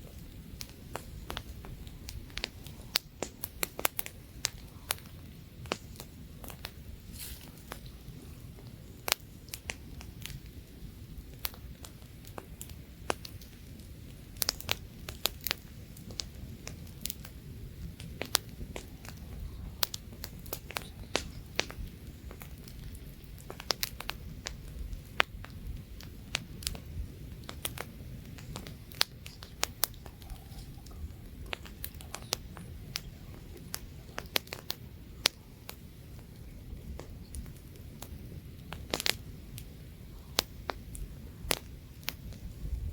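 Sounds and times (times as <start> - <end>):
campfire crackling and popping: 0.0 - 42.9
light wind: 0.0 - 42.9
low rumble of flame: 0.0 - 42.9.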